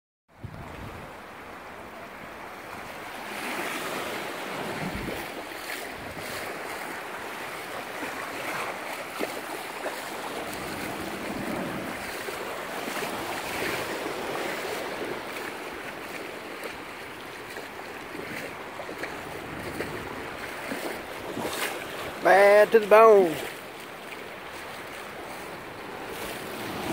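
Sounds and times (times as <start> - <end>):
small waves washing over sand: 0.4 - 26.9.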